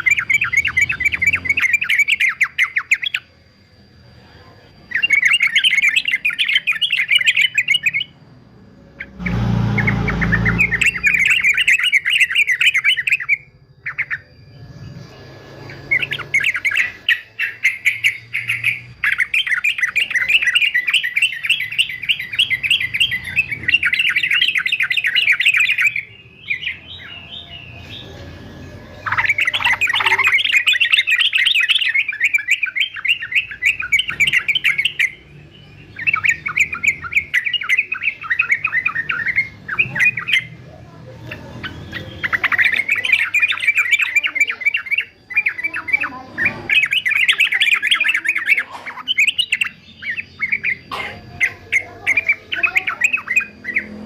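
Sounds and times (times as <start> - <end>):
bird singing chattering notes: 0.0 - 54.0.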